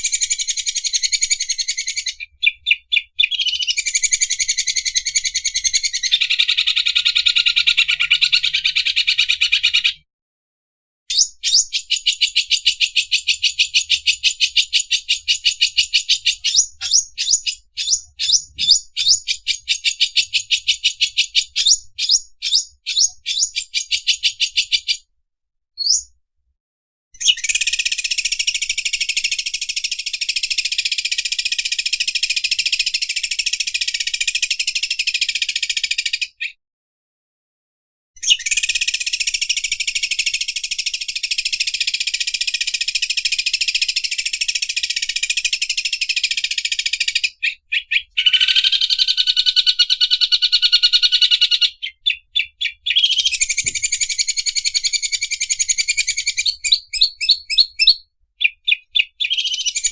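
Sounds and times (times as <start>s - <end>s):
bird singing rapid rattling song: 0.0s - 10.0s, 11.1s - 25.1s, 25.8s - 26.2s, 27.2s - 36.6s, 38.2s - 59.9s.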